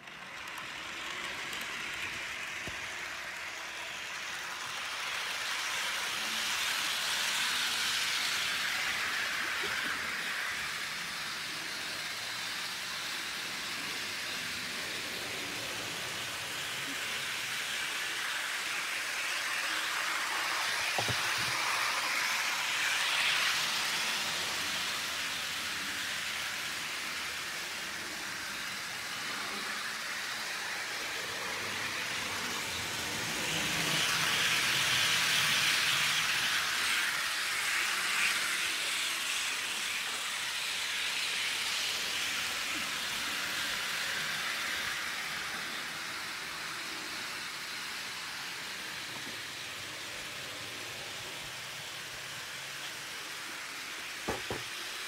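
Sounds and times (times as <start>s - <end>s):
model train wheels rattling on rails: 0.0s - 55.0s.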